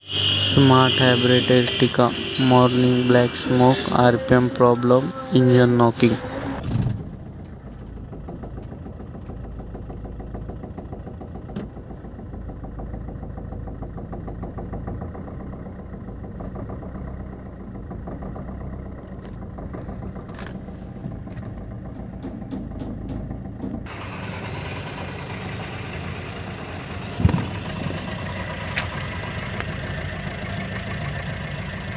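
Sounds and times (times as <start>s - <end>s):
engine idling with rough knocking: 0.0s - 31.9s.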